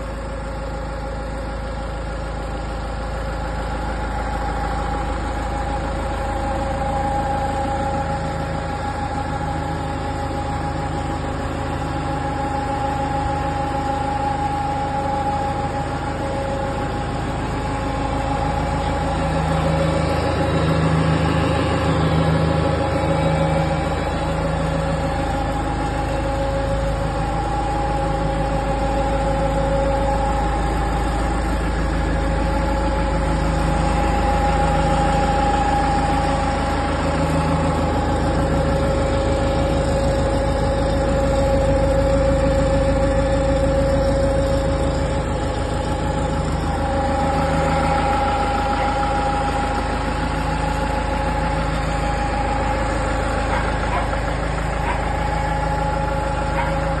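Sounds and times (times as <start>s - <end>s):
diesel tractor engine idling: 0.0s - 57.0s.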